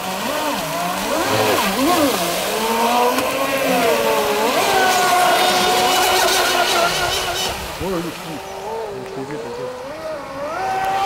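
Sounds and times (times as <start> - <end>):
electric boat motor whining: 0.0 - 11.0.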